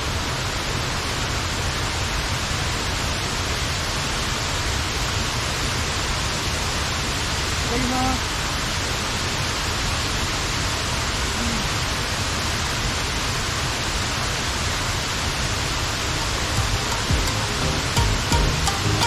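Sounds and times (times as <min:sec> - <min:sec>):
waterfall rushing: 0:00.1 - 0:19.0.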